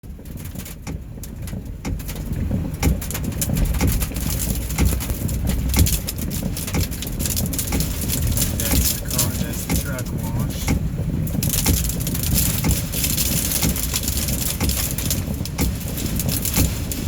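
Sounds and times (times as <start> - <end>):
hail and rain pelting a car: 0.0 - 17.0
low wind rumble: 0.0 - 17.0.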